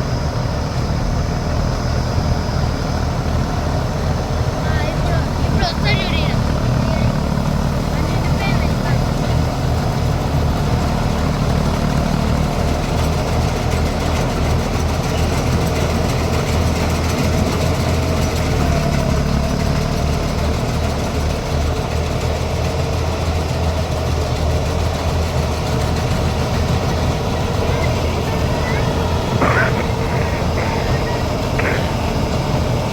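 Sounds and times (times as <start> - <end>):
combine harvester engine running: 0.0 - 32.9.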